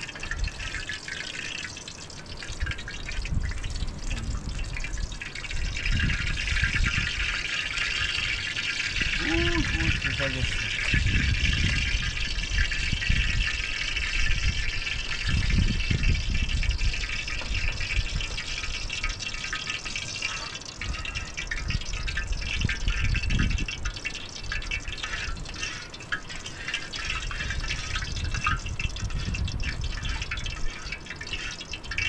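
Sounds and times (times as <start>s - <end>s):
wind rumbling on microphone: 0.0s - 1.0s, 2.2s - 32.0s
running water rushing: 0.0s - 32.0s.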